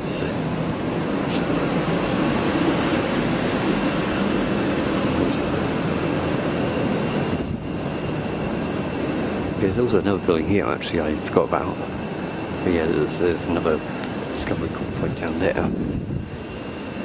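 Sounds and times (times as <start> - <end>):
air conditioning units running: 0.0 - 17.0
faint high whine: 0.0 - 17.0.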